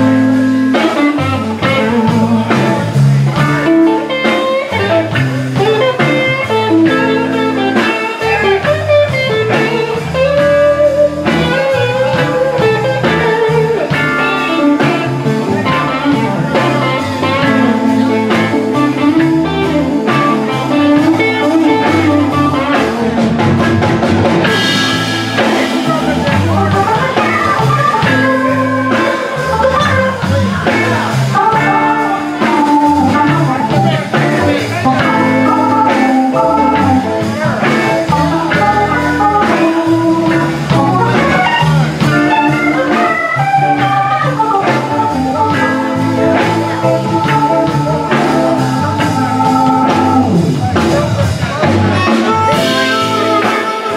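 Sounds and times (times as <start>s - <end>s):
electric blues band: 0.0s - 53.9s
electric guitar lead: 0.0s - 53.9s.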